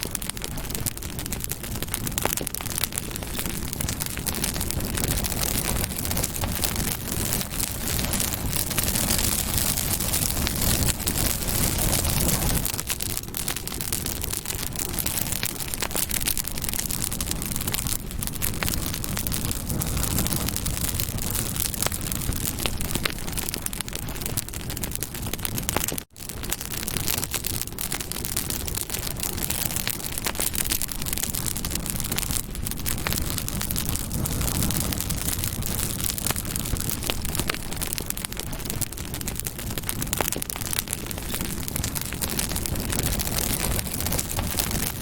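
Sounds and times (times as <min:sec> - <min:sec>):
flames rumbling: 0:00.0 - 0:45.0
wood crackling and popping: 0:00.0 - 0:45.0.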